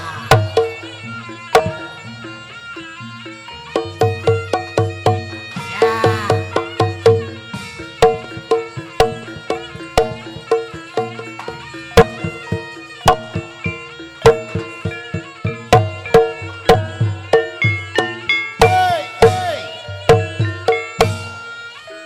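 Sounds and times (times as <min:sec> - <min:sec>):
pitched instruments melodic tones: 0:00.0 - 0:22.0
hand drum strokes: 0:03.8 - 0:21.5.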